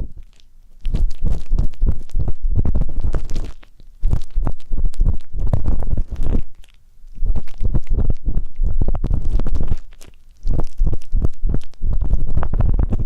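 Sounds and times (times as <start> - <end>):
ear pick scraping in microphone: 0.9 - 13.0.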